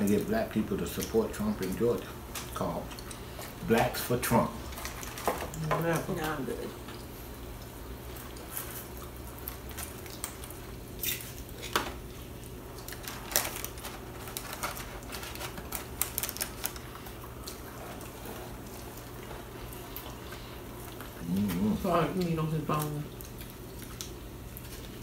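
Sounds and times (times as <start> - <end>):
people chewing chicken wings: 0.0 - 25.0
steady low hum: 0.0 - 25.0.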